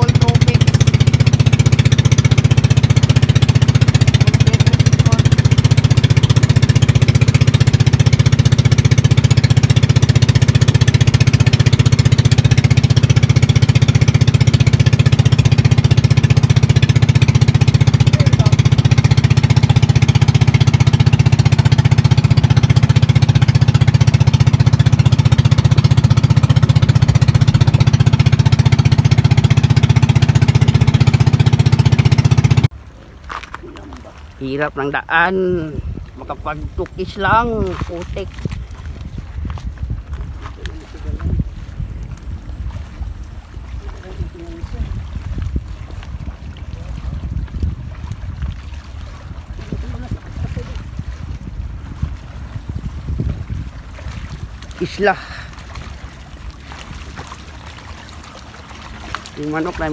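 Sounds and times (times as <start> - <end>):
boat engine chugging: 0.0 - 59.9.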